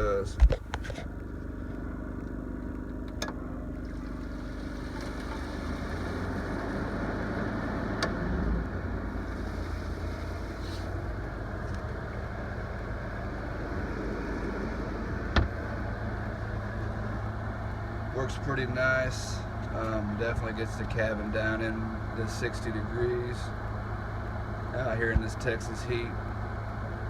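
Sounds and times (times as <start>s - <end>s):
generator drone: 0.0s - 27.0s.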